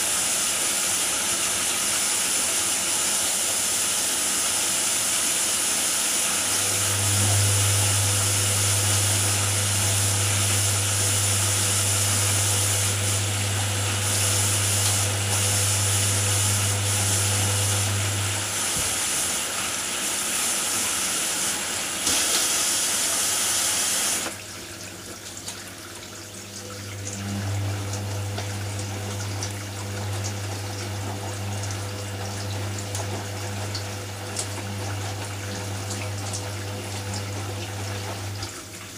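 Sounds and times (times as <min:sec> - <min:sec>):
washing machine drum motor hum: 0:00.0 - 0:38.9
water rushing into washing machine: 0:00.0 - 0:38.9.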